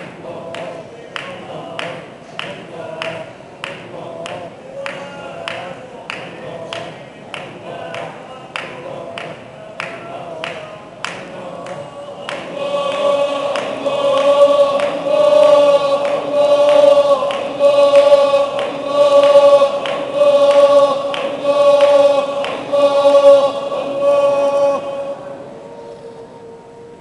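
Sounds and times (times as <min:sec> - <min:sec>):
men chanting in unison: 0:00.0 - 0:26.8.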